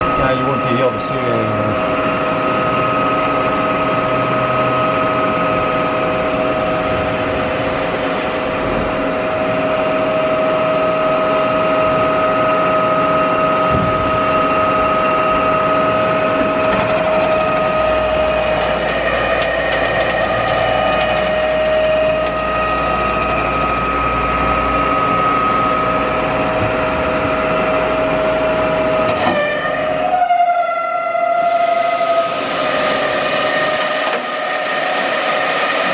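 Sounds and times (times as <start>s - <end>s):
lathe high whine: 0.0s - 35.9s.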